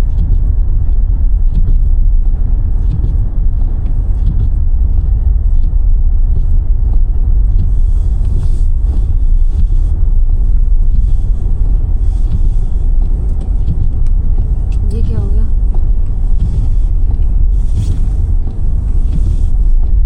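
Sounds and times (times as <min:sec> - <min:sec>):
car tyres and engine rumble: 0:00.0 - 0:20.0.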